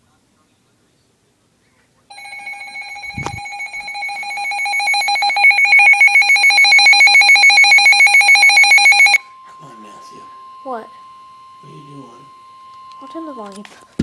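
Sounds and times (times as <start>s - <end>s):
pulsing electronic alarm beeping: 2.1s - 14.0s.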